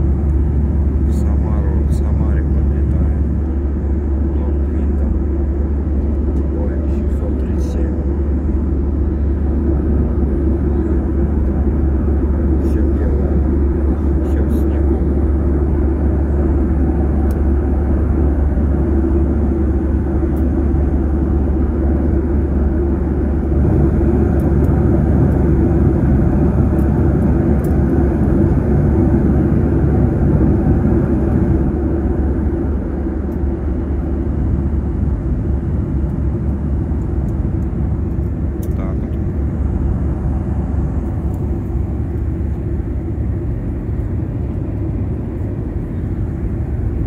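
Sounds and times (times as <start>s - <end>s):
jet engines droning: 0.0s - 47.0s.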